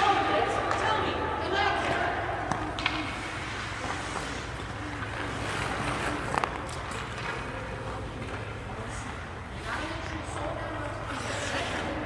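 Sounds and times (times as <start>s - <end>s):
indoor hall low hum: 0.0s - 12.0s.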